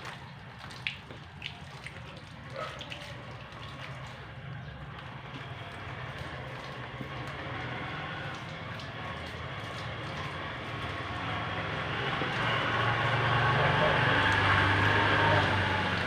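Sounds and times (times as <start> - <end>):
low motor hum: 2.6 - 16.0.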